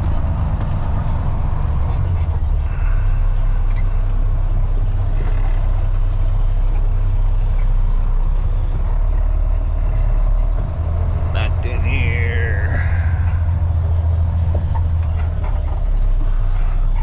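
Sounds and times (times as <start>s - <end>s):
diesel truck engine rumble: 0.0s - 17.0s.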